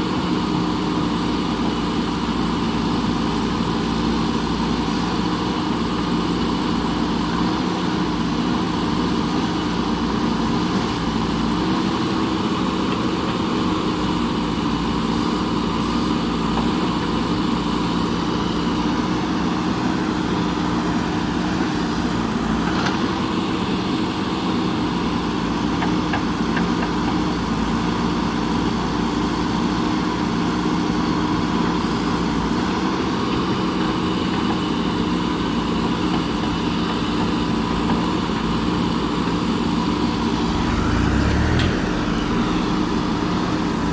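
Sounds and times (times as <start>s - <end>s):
diesel engine running steadily: 0.0s - 43.9s.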